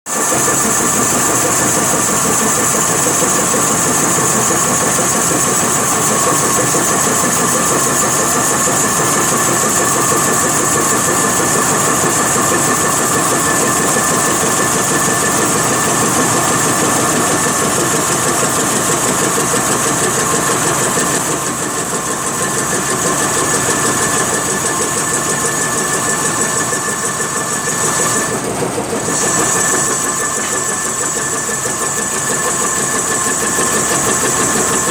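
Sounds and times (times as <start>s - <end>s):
cutter hissing on spinning wood: 0.1s - 34.9s
wood lathe motor whine: 0.1s - 34.9s.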